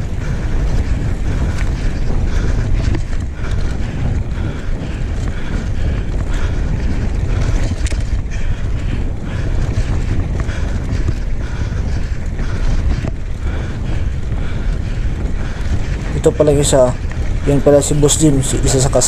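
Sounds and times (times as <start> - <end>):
bike tyres on dirt: 0.0 - 19.0
wind buffeting microphone: 0.0 - 19.0.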